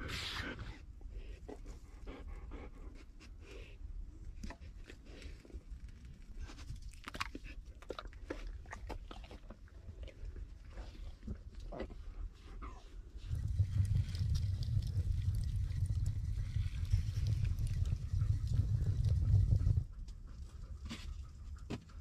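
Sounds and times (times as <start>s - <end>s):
low steady rumble: 0.0s - 22.0s
dog chewing and crunching meat: 4.3s - 22.0s.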